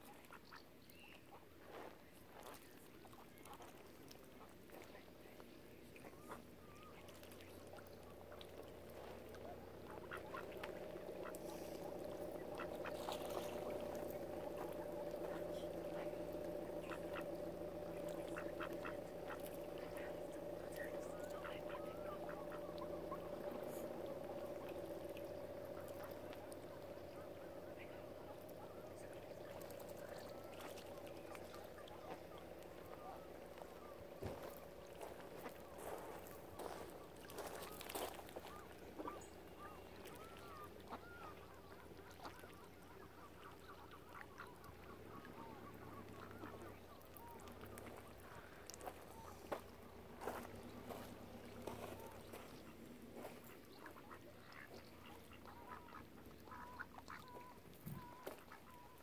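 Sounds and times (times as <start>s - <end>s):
ducks quacking: 6.0s - 59.0s
steady drone: 6.2s - 57.2s.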